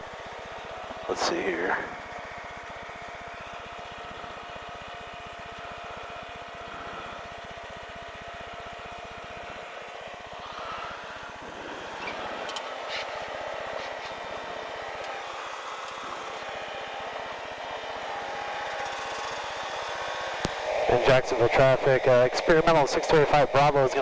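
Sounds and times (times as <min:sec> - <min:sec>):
aircraft piston engine: 0:00.0 - 0:24.0.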